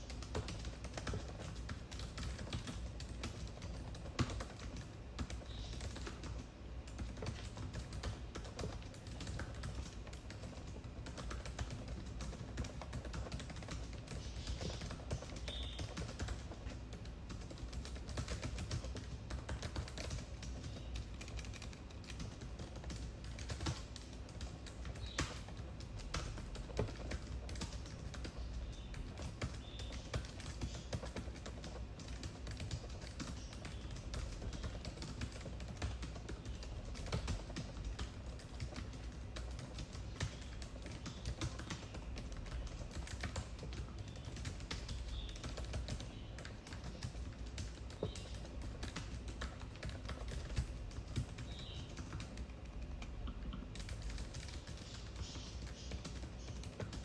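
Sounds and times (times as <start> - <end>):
laptop keyboard typing: 0.0 - 57.0
low steady hum: 0.0 - 57.0.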